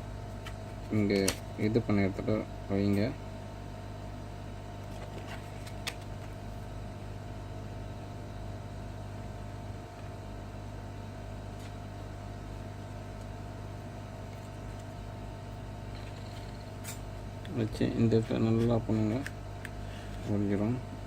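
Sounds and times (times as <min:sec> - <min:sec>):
electric fan motor hum: 0:00.0 - 0:21.0.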